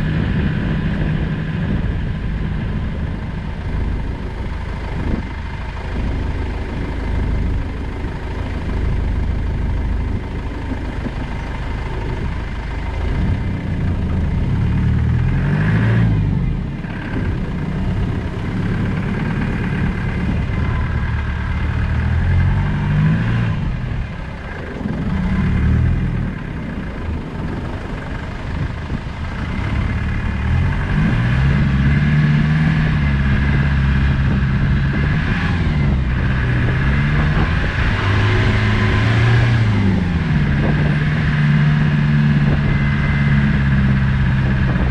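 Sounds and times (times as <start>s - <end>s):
turbodiesel engine revving: 0.0s - 44.9s.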